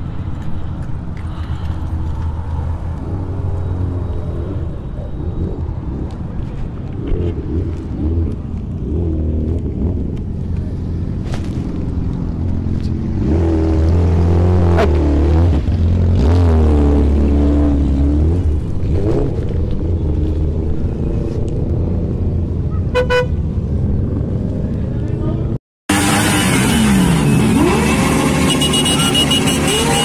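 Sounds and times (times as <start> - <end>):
motorcycle engines idling and revving: 0.0 - 30.0.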